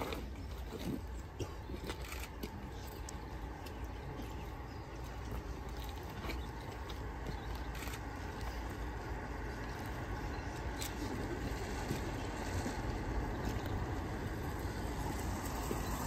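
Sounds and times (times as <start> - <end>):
steady low rumble: 0.0 - 16.0
footsteps on wet tarmac: 1.0 - 16.0.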